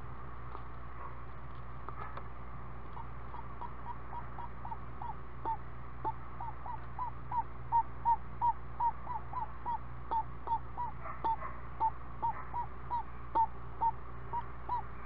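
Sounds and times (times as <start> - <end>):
low electrical hum: 0.0 - 15.0
owl hooting: 2.9 - 15.0.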